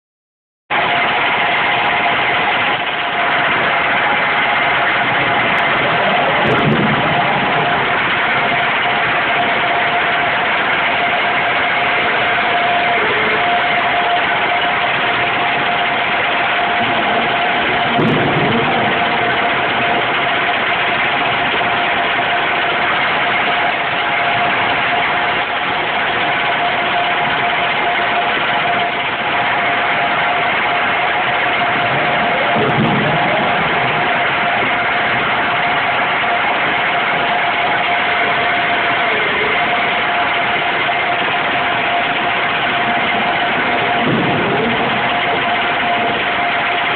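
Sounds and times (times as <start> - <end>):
machinery noise with whine: 0.7 - 46.9.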